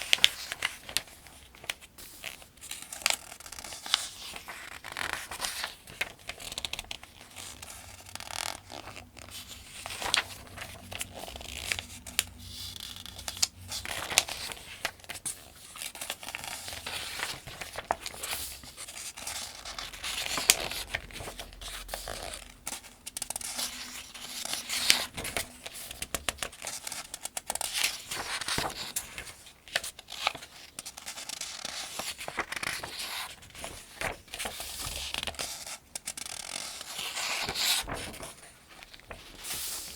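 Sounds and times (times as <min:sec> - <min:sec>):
pages being turned: 0:00.0 - 0:39.9.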